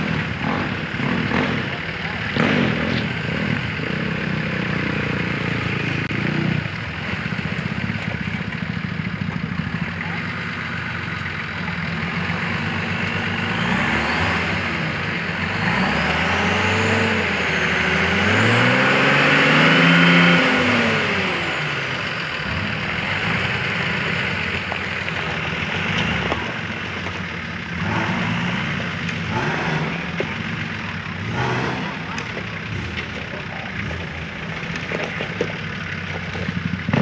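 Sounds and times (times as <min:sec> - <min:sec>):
off-road engine revving: 0:00.0 - 0:37.0.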